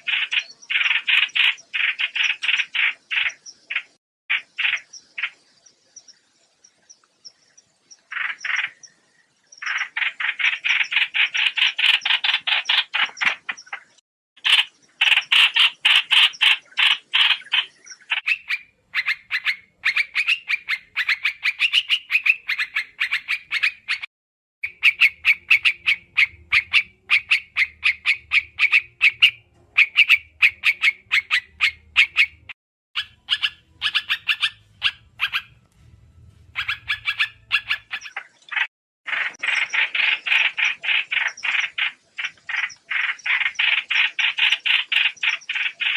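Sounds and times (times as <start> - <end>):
bird chattering calls: 0.0 - 5.4, 8.0 - 9.0, 9.6 - 35.6, 36.5 - 45.9.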